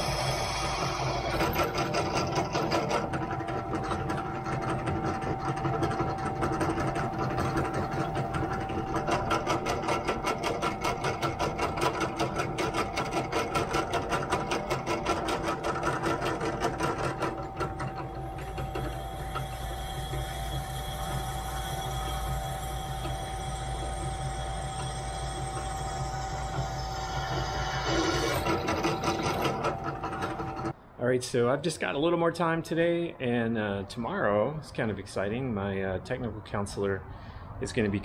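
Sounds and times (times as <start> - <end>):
drill press cutting metal: 0.0 - 30.8.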